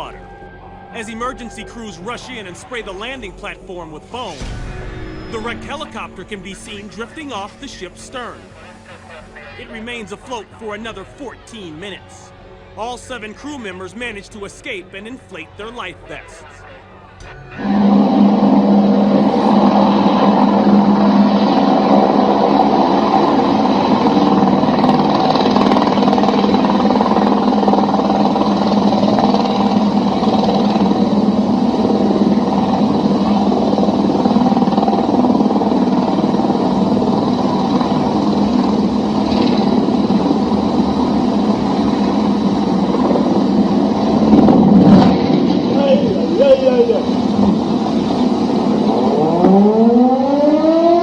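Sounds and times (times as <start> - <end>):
helicopter engine drone: 0.0 - 51.0.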